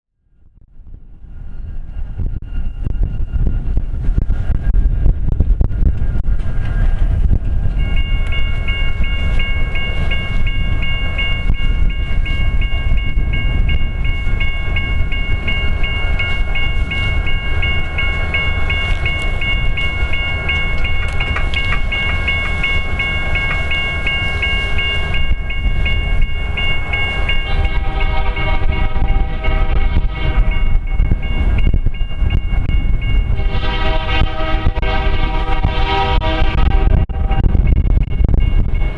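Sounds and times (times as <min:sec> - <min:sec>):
blizzard wind: 0:00.1 - 0:38.9
locomotives rumbling: 0:02.0 - 0:38.9
railroad crossing bell ringing: 0:06.5 - 0:38.9.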